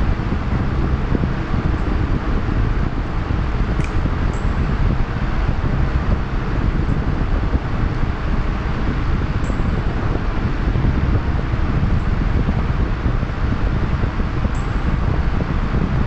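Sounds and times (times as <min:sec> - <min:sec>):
loud low rushing noise: 0:00.0 - 0:16.0.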